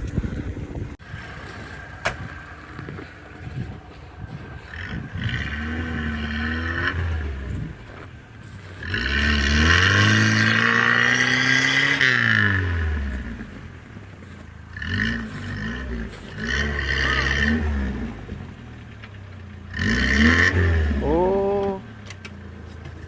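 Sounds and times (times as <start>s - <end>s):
high engine whine: 0.0s - 23.0s
car engine revving: 1.0s - 23.0s.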